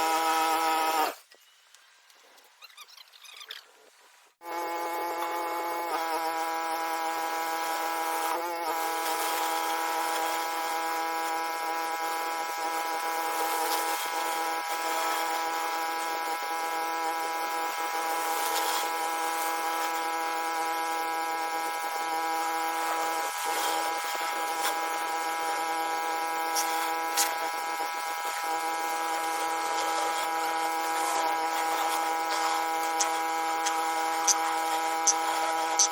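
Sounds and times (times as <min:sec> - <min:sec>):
pressure washer mechanical whine: 0:00.0 - 0:01.2, 0:04.4 - 0:35.9.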